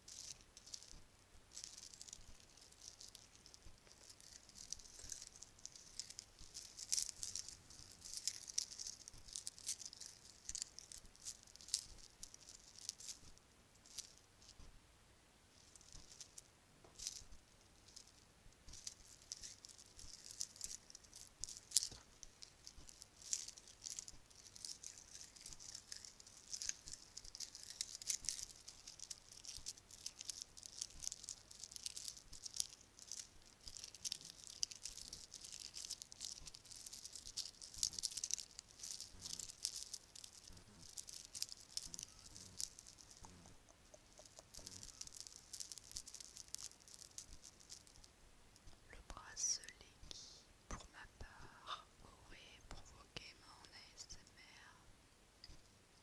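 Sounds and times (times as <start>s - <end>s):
bracelets clinking together: 0.1s - 14.5s, 15.6s - 48.1s.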